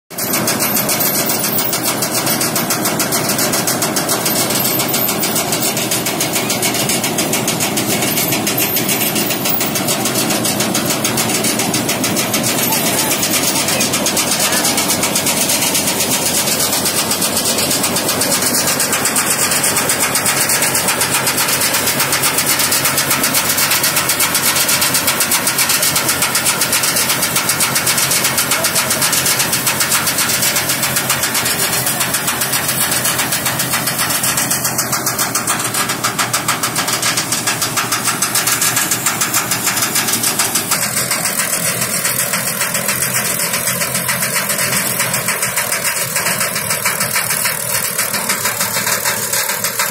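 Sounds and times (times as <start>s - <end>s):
combine harvester threshing: 0.1s - 49.9s.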